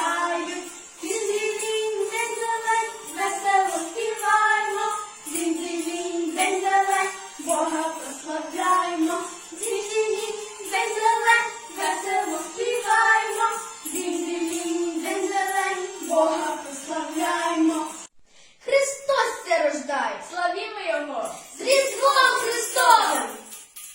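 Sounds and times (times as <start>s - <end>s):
girls singing a carol: 0.0s - 18.1s, 21.4s - 23.6s.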